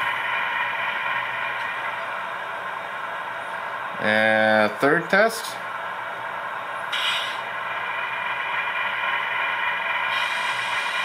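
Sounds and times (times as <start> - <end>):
model locomotive diesel engine sound: 0.0 - 11.0.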